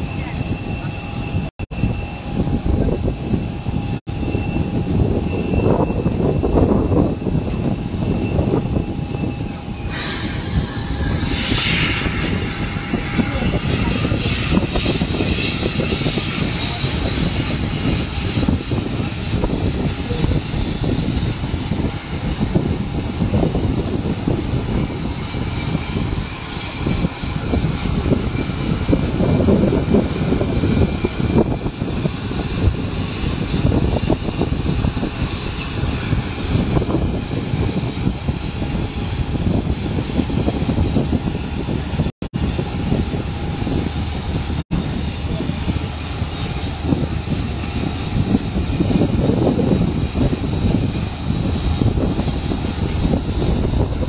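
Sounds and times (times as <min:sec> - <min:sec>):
aircraft engines rumbling: 0:00.0 - 0:54.0.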